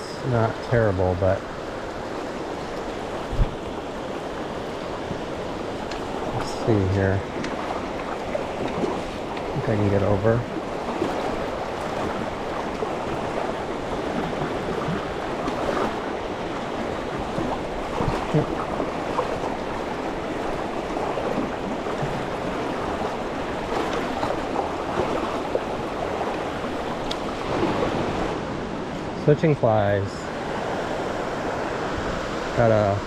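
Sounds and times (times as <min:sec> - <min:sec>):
creek water burbling over rocks: 0:00.0 - 0:28.4.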